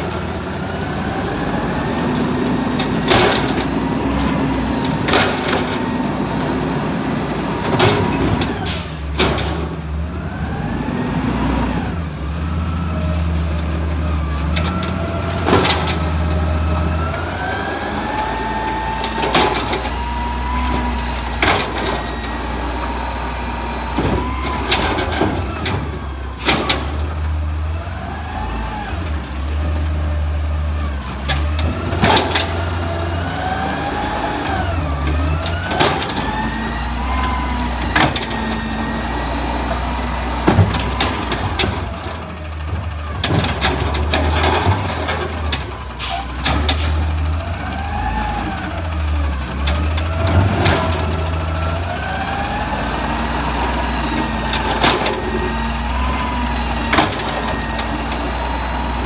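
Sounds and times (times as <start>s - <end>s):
garbage truck diesel engine revving: 0.0s - 59.0s
trash carts clanking: 1.8s - 10.5s, 11.9s - 27.8s, 28.5s - 59.0s.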